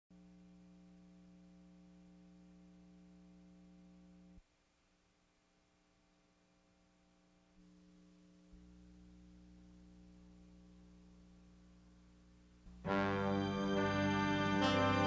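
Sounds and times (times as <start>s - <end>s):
faint electrical hum: 0.1s - 15.0s.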